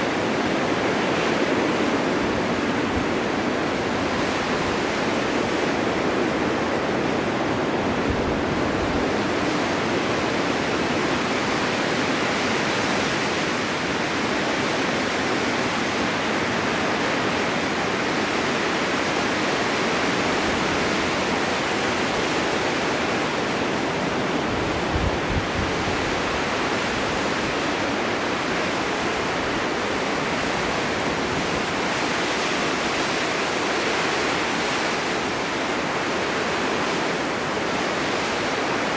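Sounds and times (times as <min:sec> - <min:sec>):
rushing snowstorm wind: 0:00.0 - 0:38.9.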